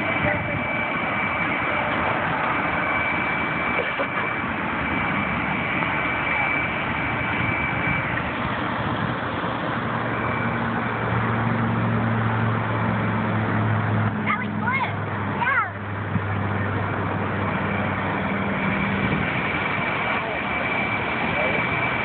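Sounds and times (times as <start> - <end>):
motor droning: 0.0 - 22.0
rushing noise: 0.0 - 22.0.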